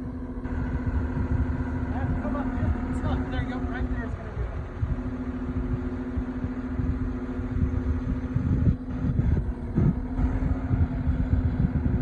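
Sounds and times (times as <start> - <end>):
low rumbles: 0.0 - 12.0
skid loader engine idling: 0.0 - 12.0.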